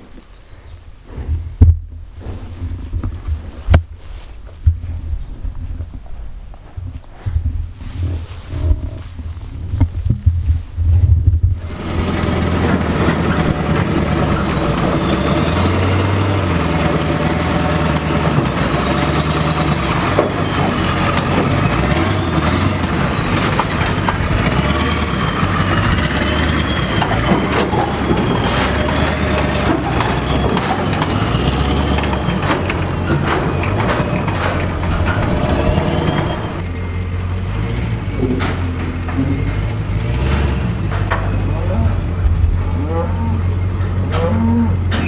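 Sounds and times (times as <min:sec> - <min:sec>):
vehicle engine running: 0:05.7 - 0:45.0.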